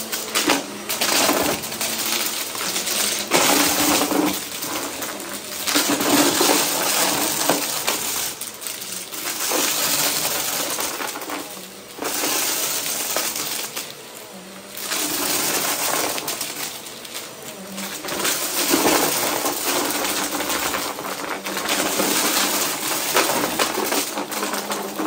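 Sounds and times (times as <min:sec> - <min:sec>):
debris rattling in vacuum: 0:00.0 - 0:25.0
vacuum cleaner running on carpet: 0:00.0 - 0:25.0.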